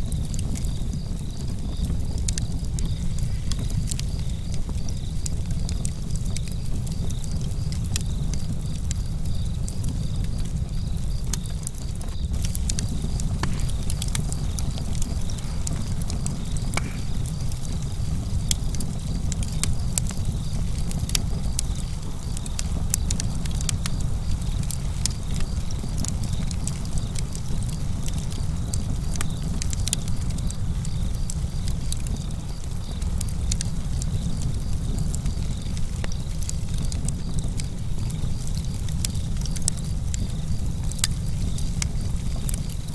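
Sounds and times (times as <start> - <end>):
campfire crackling and popping: 0.0 - 42.9
crickets chirping: 0.0 - 42.9.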